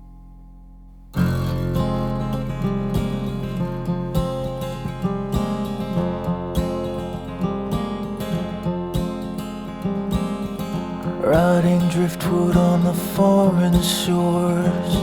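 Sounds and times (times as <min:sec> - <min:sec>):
guitar strumming over a beat: 0:01.1 - 0:15.0.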